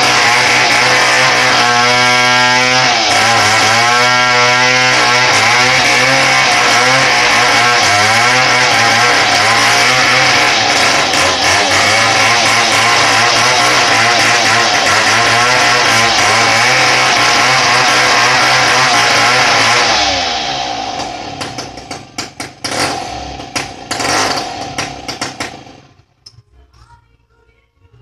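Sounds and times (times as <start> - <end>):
chainsaw running: 0.0 - 26.0.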